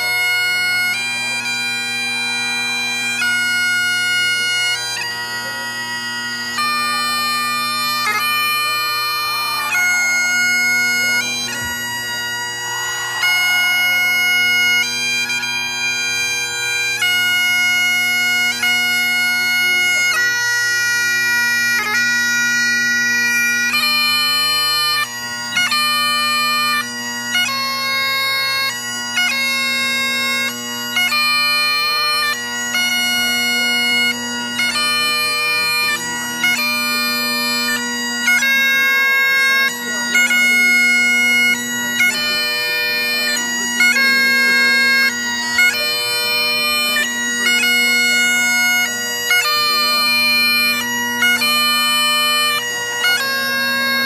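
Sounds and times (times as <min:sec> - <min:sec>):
bagpipe chanter melody: 0:00.0 - 0:54.0
bagpipe drones: 0:00.0 - 0:54.0.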